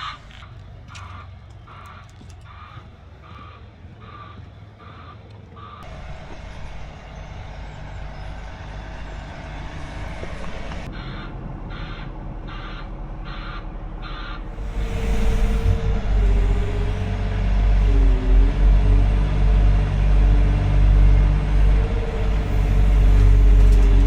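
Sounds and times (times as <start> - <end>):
diesel engine rumble: 0.0 - 24.0.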